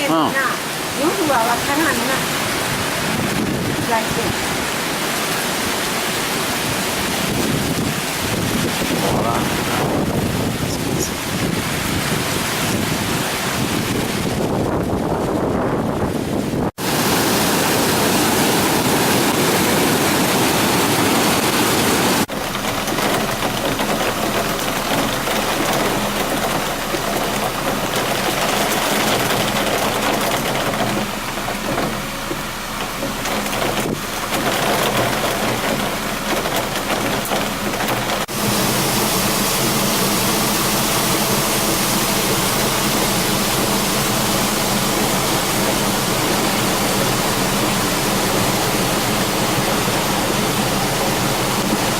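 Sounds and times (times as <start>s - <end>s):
rushing floodwater: 0.0s - 51.9s.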